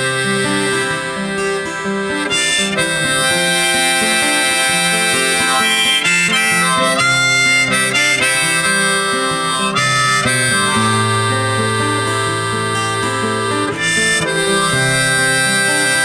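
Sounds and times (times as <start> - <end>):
guitar: 0.0 - 16.0
harmonica: 0.0 - 16.0.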